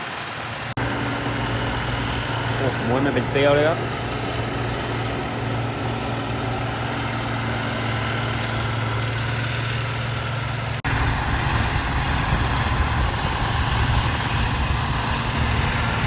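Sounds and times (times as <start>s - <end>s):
diesel engine running: 0.0s - 16.0s
loud rough engine: 0.0s - 16.0s.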